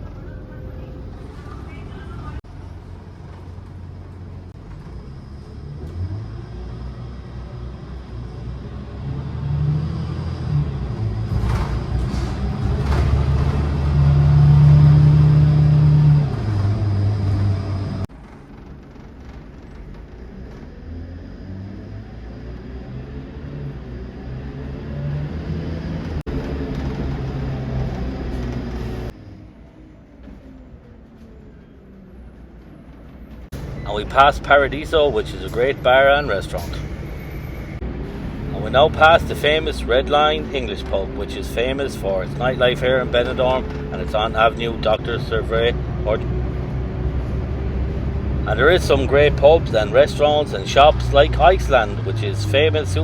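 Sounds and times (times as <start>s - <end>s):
bus engine: 0.0s - 53.0s
road noise inside bus: 0.0s - 53.0s.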